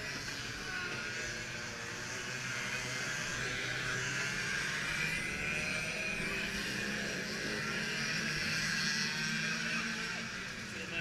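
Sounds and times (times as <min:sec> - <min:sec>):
racing kart engines droning: 0:00.0 - 0:11.0.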